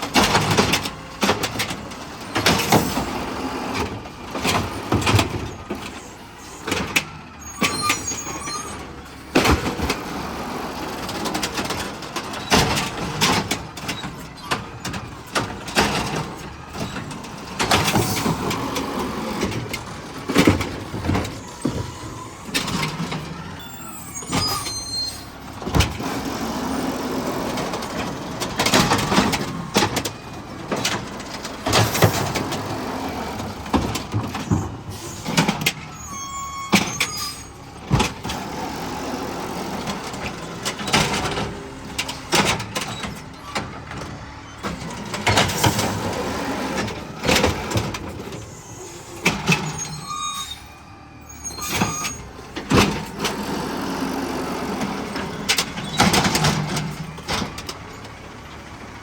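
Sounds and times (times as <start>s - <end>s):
garbage truck running: 0.0s - 59.0s.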